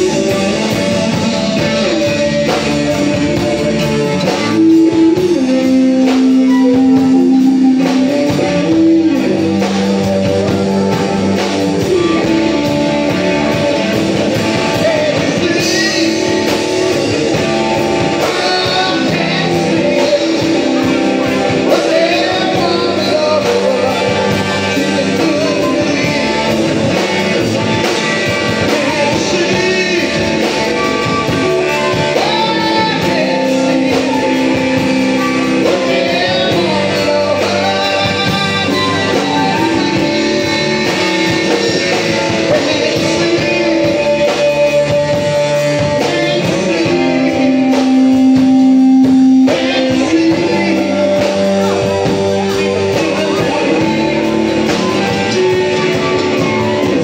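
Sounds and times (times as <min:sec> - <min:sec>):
drum kit: 0:00.0 - 0:57.0
electric guitars: 0:00.0 - 0:57.0
person singing: 0:00.0 - 0:57.0.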